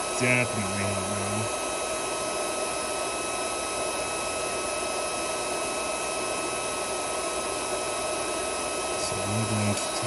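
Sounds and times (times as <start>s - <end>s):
induction heater whirring and whining: 0.0s - 10.0s.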